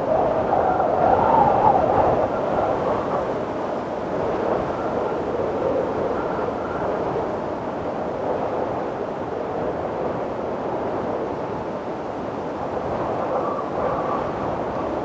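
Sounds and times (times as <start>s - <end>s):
faint wind whistling: 0.0s - 15.0s
wind blowing: 0.0s - 15.0s.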